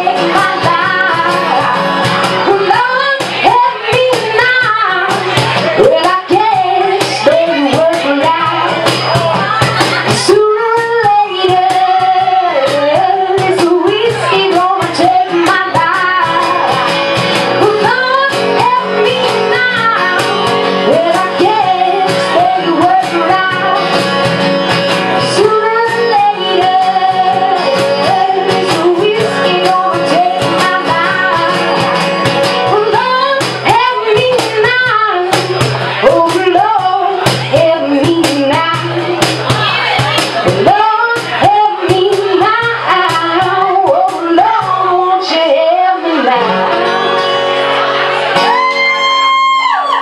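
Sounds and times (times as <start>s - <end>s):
woman singing: 0.0s - 46.9s
acoustic guitar strumming: 0.0s - 50.0s.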